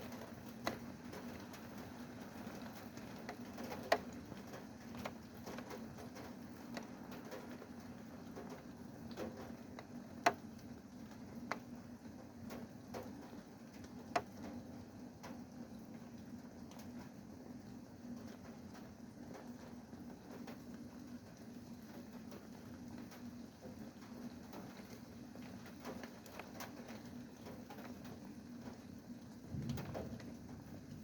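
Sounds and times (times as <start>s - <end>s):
rain drops ticking on hard surface: 0.0s - 31.0s.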